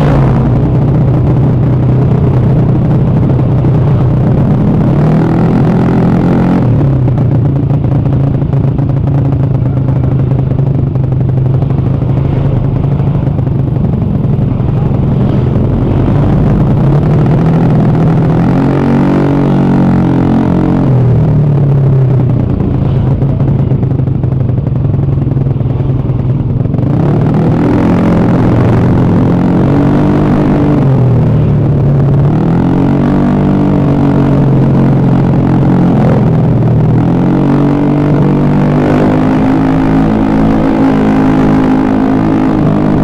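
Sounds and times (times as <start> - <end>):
scooter engine running: 0.0 - 43.0.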